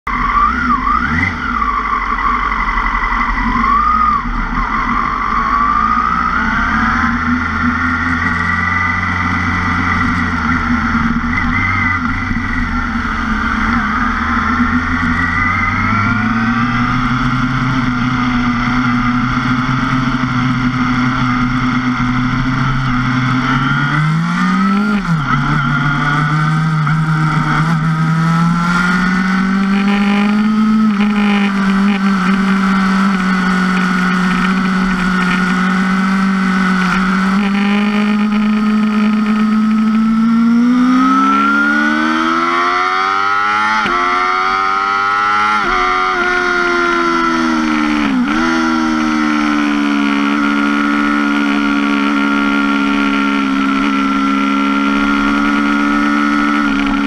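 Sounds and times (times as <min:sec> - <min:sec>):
motorcycle engine revving: 0:00.1 - 0:57.0.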